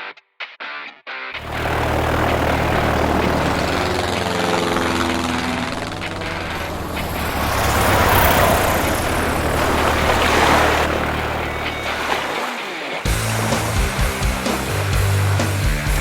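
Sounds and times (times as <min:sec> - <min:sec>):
propeller aircraft engine droning: 0:01.4 - 0:16.0.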